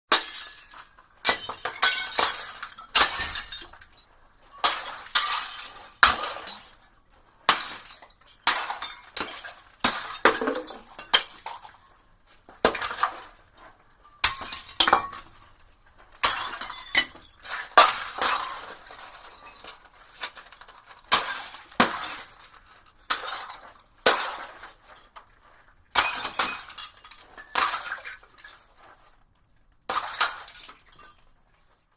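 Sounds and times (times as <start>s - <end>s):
glass bottles smashing: 0.1s - 31.5s.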